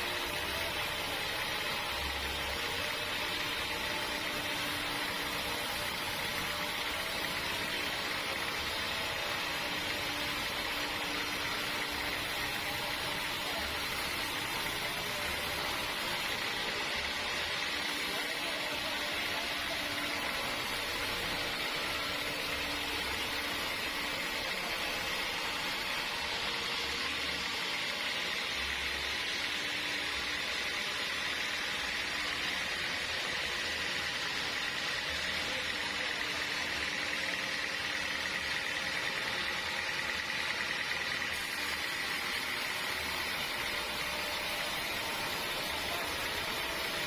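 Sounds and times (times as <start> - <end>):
sawmill machinery hiss: 0.0 - 47.0.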